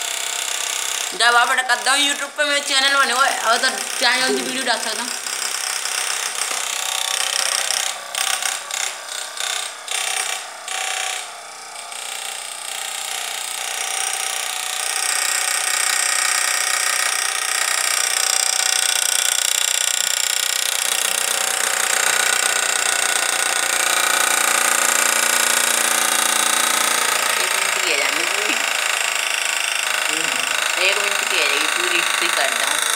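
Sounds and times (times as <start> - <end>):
small electric motor whining: 0.0 - 32.9.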